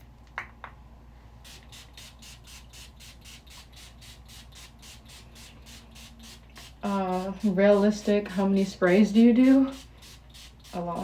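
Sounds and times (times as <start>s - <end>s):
perfume atomizer spraying: 1.4s - 11.0s.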